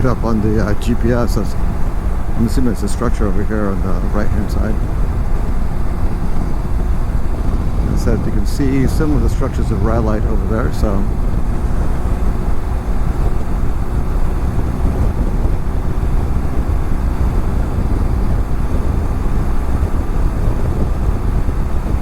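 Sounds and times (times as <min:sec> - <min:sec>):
motorcycle engine drone: 0:00.0 - 0:22.0
wind rushing over microphone: 0:00.0 - 0:22.0.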